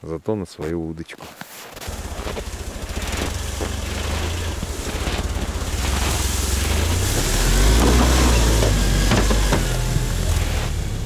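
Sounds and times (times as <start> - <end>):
all-terrain vehicle engine pulsing: 1.8 - 11.0.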